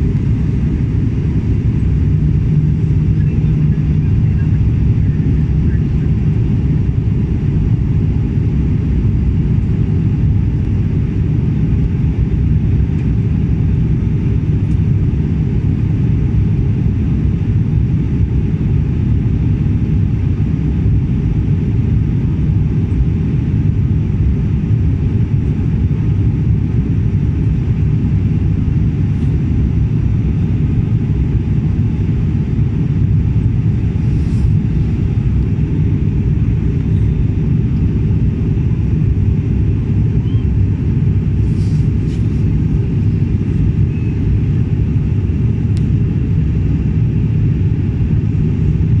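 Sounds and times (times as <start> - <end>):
airliner cabin drone: 0.0 - 49.0.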